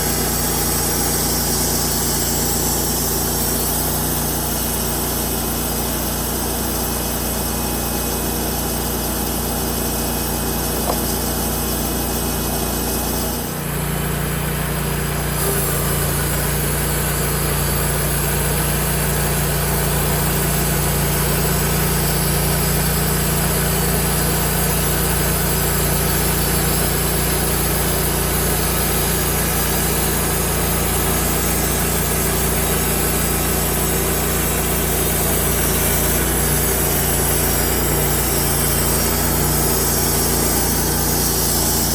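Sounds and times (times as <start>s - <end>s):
band sawmill running: 0.0s - 41.9s.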